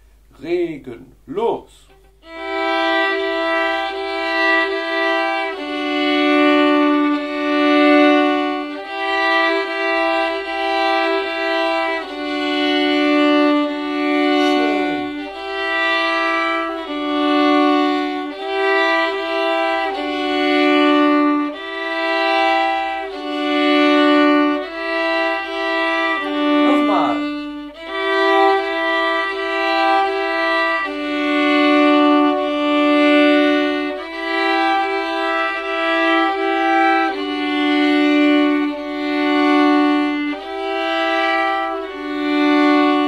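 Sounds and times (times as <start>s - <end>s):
two violins bowed together: 1.7s - 43.0s.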